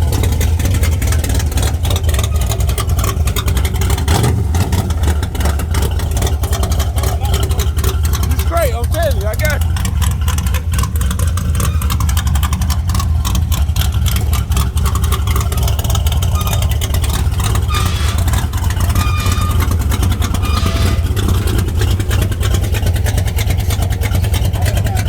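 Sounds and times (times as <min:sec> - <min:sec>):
car engine with loud exhaust: 0:00.0 - 0:25.0.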